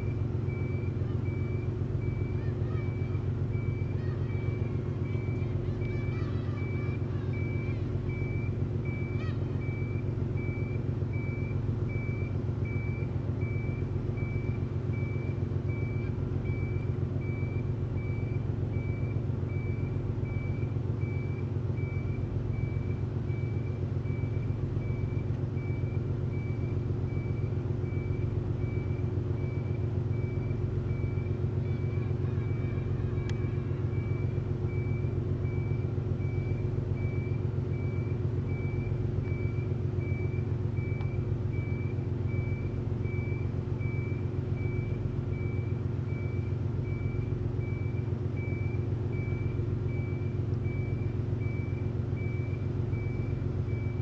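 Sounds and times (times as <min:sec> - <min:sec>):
low engine hum: 0:00.0 - 0:54.0
reversing alarm beeping: 0:00.0 - 0:54.0.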